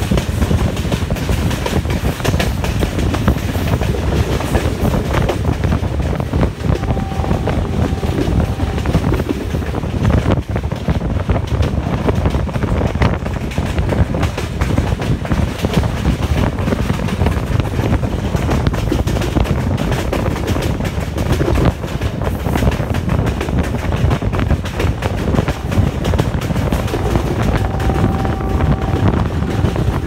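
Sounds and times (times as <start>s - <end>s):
train rumble: 0.0s - 30.0s
wheels clattering on rails: 0.0s - 30.0s.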